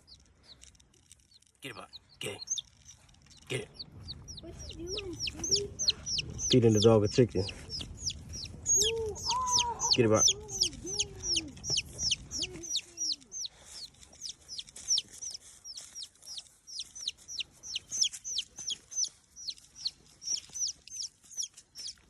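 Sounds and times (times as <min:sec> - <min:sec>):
chick peeping loudly: 0:01.8 - 0:22.0.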